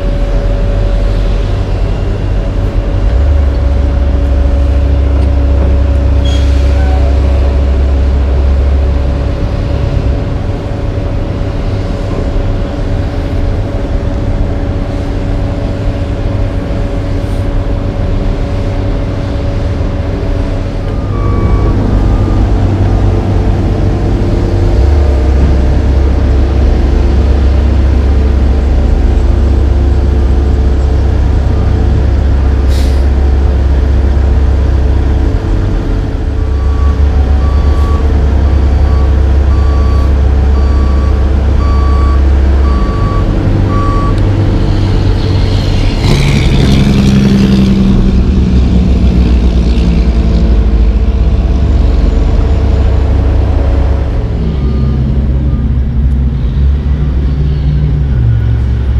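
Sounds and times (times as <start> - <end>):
heavy diesel engines rumbling: 0.0 - 58.9.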